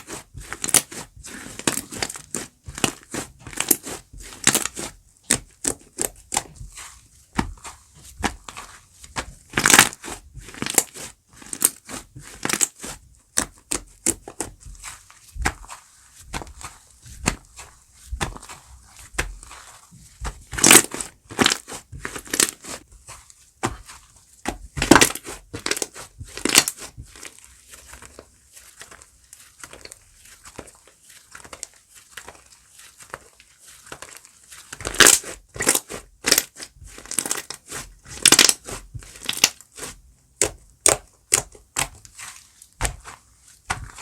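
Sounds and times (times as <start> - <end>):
slime crackling and squishing: 0.0 - 44.0.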